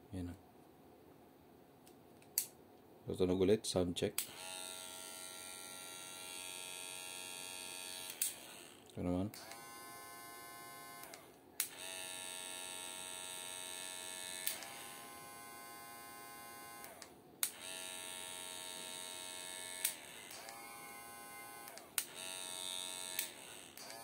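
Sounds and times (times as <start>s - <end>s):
hair clipper buzzing: 4.2s - 24.0s.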